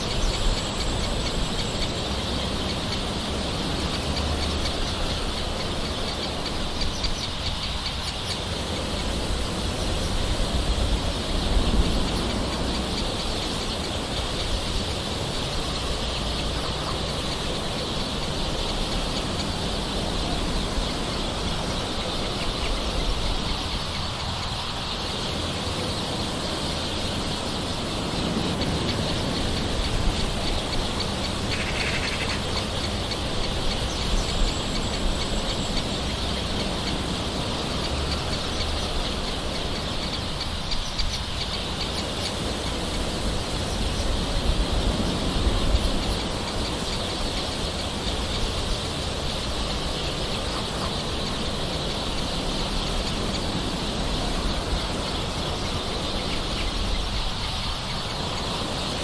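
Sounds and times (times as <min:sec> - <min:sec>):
birds calling: 0:00.0 - 0:59.0.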